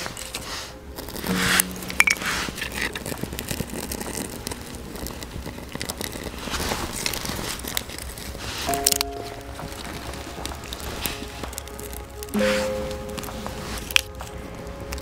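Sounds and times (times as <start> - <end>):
fire crackling: 0.0 - 15.0
rustle of wood being handled: 0.0 - 15.0.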